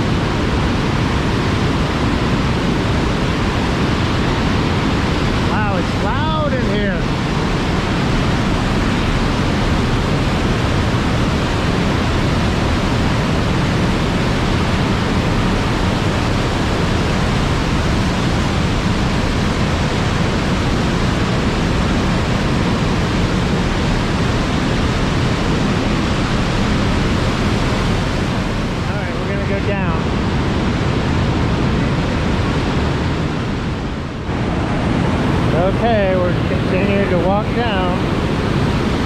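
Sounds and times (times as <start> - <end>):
waterfall roaring in canyon: 0.0 - 39.0.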